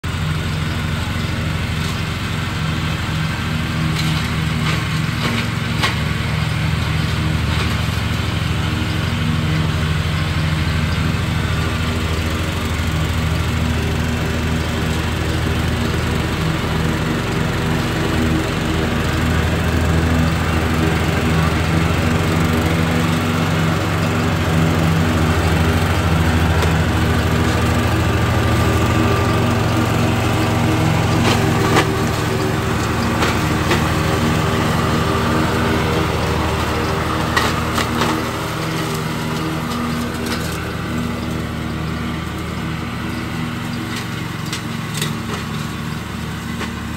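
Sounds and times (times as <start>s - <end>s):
riding lawn mower engine running: 0.0s - 46.9s.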